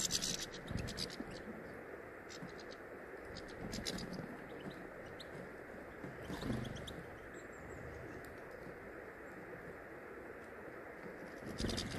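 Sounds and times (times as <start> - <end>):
birds pecking seeds in feeder: 0.0 - 1.4, 2.3 - 9.8, 11.0 - 11.9
low background noise: 0.0 - 11.9.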